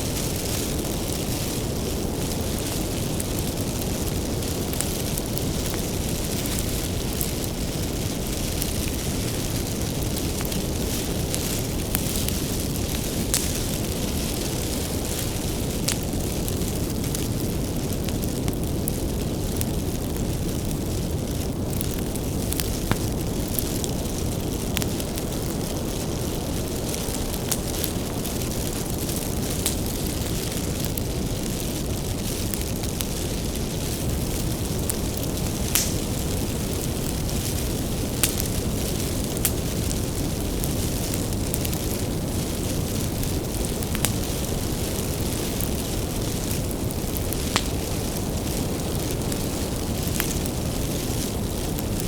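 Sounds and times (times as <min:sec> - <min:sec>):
low rumble of flames: 0:00.0 - 0:52.0
wood crackling and popping: 0:00.0 - 0:52.0.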